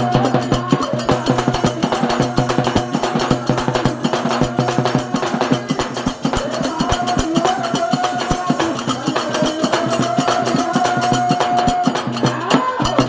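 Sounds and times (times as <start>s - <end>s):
drum and percussion strokes: 0.0s - 13.0s.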